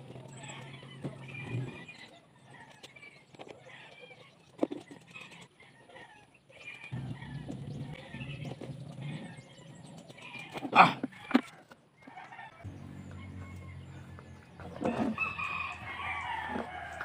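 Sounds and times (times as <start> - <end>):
birds calling: 0.0 - 17.0
farmyard animals calling: 0.2 - 17.0.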